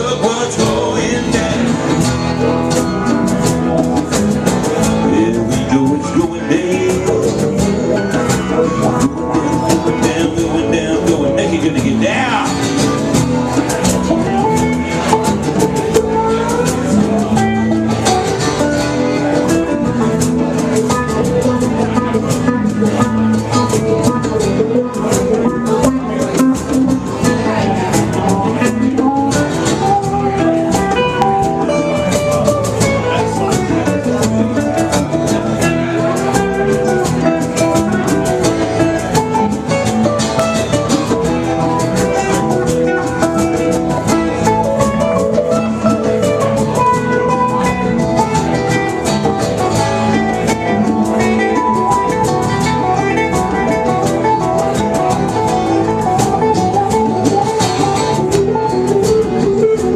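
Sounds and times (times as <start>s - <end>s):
guitar: 0.0s - 59.9s
live band playing: 0.0s - 59.9s.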